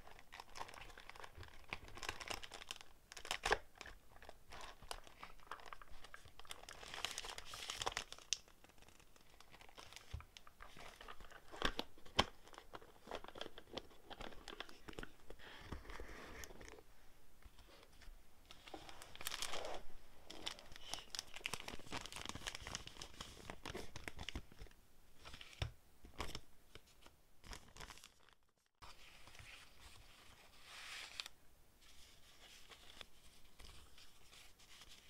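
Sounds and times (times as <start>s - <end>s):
paper and plastic rustling: 0.0s - 16.8s, 17.6s - 35.0s.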